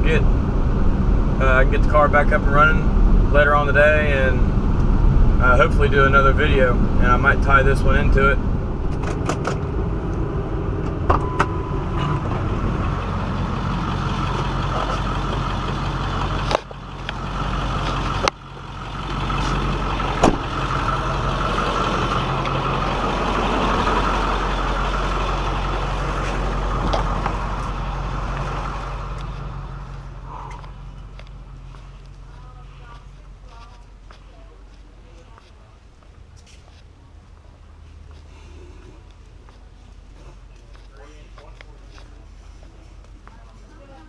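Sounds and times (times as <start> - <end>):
car engine drone in cabin: 0.0 - 44.0.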